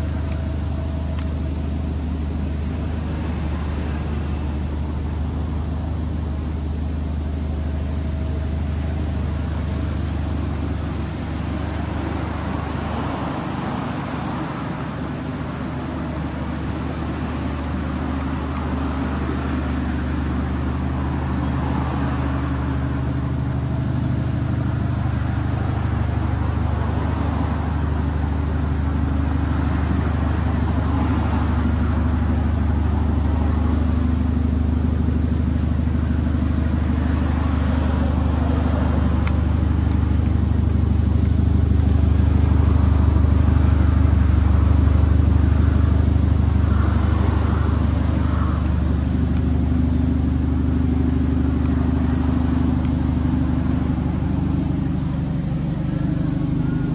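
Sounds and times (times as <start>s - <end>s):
low car engine note: 0.0s - 56.9s.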